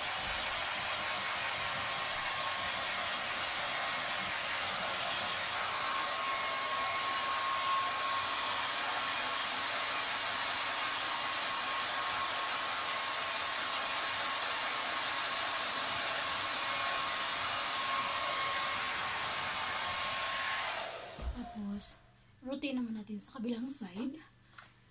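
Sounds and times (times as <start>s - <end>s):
hair dryer running: 0.0s - 21.9s.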